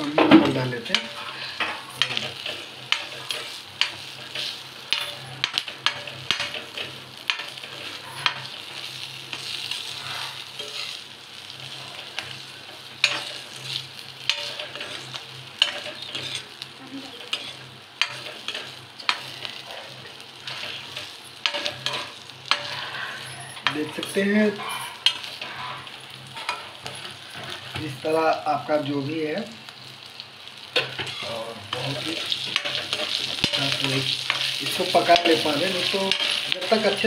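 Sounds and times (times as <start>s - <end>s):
chillies sizzling in oil: 0.0s - 37.0s.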